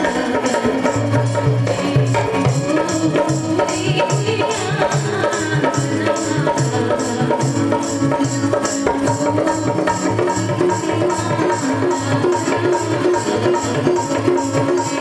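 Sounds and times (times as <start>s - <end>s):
hand drum and electronic percussion: 0.0s - 15.0s
keyboard: 0.0s - 15.0s
woman singing into a microphone: 0.0s - 15.0s.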